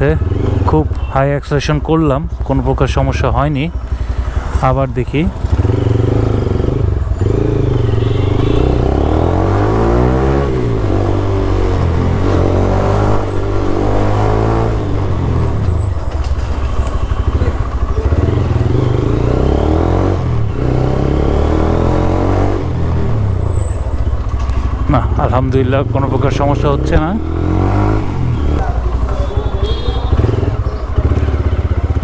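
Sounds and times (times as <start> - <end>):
motorcycle engine accelerating: 0.0 - 0.8, 2.4 - 32.0.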